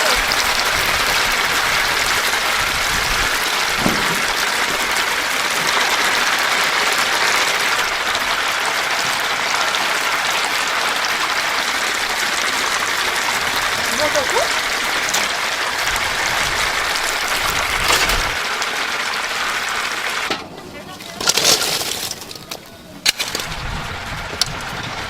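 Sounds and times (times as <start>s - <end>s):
hot oil sizzling: 0.0s - 25.0s.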